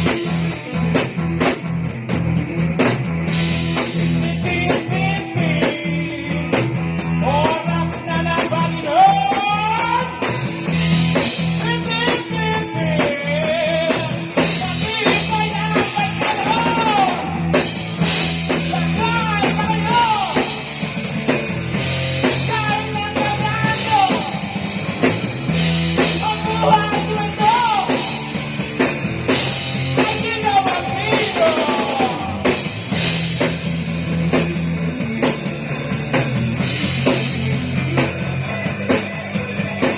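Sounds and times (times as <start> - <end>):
rock band jamming: 0.0 - 39.9.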